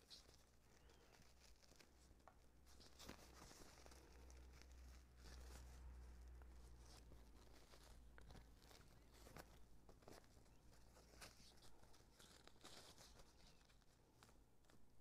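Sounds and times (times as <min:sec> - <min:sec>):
ribbon rustling and crinkling: 0:00.0 - 0:15.0.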